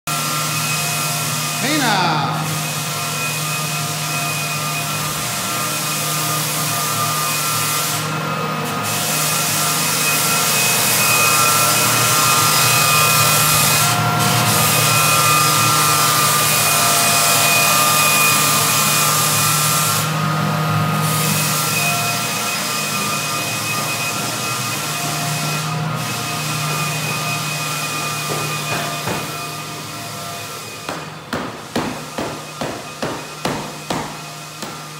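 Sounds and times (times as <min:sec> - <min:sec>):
floor sander motor hum and whine: 0:00.1 - 0:34.9.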